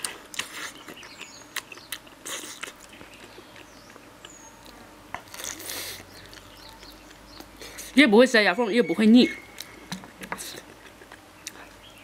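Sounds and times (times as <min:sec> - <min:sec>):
chewing and lip-smacking: 0:00.0 - 0:07.9, 0:09.6 - 0:11.8.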